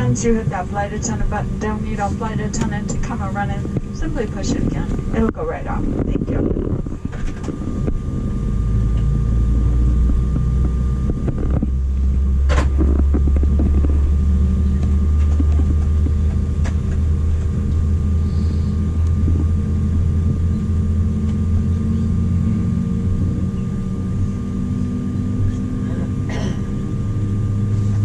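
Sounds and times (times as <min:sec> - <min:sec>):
jet cabin rumble: 0:00.0 - 0:28.0
thin steady whine: 0:00.0 - 0:28.0.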